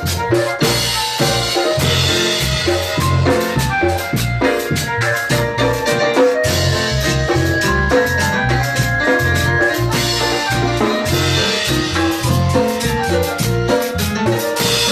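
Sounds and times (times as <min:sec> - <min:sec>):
bass drum beat: 0:00.0 - 0:14.9
electronic keyboard melody: 0:00.0 - 0:14.9.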